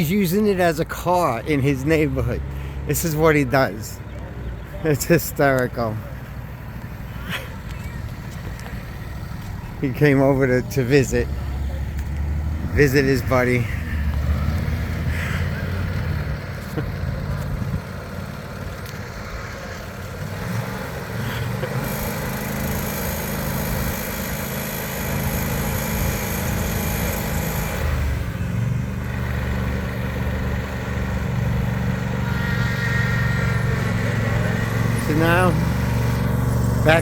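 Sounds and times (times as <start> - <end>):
riding lawnmower engine running: 0.0 - 37.0.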